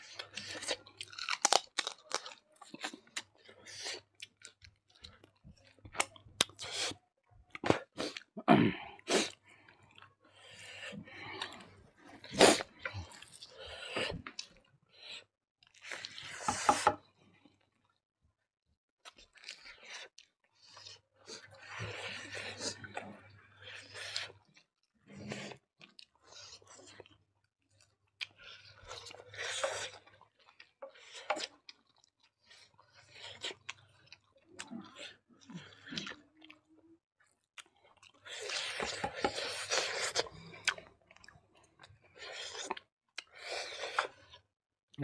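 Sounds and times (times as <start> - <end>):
wet chewing and crunching: 0.0 - 8.4, 9.1 - 16.3, 19.0 - 44.5.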